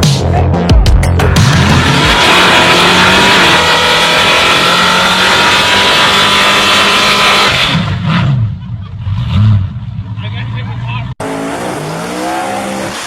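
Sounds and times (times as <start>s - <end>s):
car engine at high revs: 1.3s - 10.2s, 11.1s - 13.0s.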